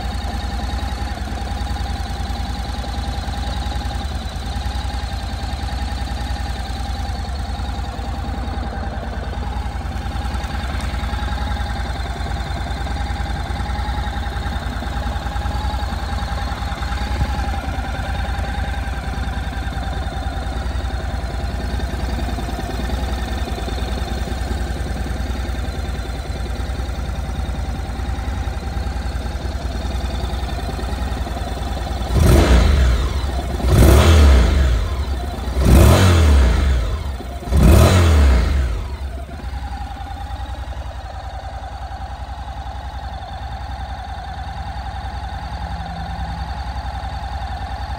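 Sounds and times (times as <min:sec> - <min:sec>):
motorcycle engine idling: 0:00.0 - 0:47.9
motorcycle engine revving: 0:00.0 - 0:47.9.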